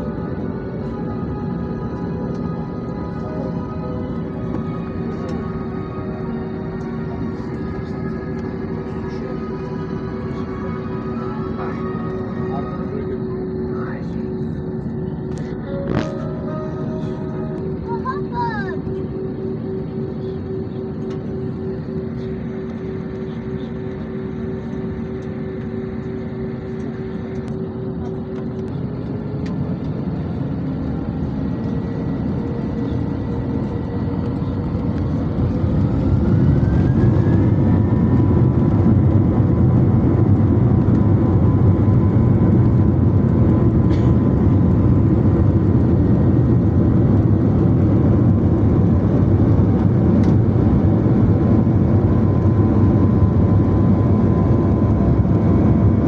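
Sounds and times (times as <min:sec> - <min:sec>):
jet engines roaring: 0:00.0 - 0:18.0, 0:18.8 - 0:56.0
rising engine whine: 0:00.0 - 0:56.0.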